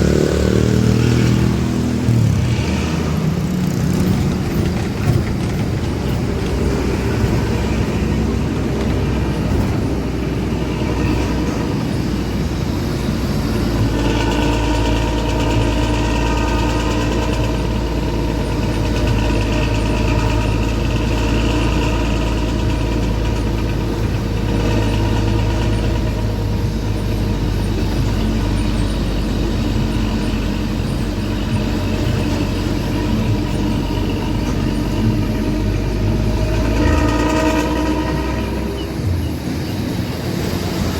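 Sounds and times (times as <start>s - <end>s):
bus engine growling exhaust: 0.0s - 40.9s.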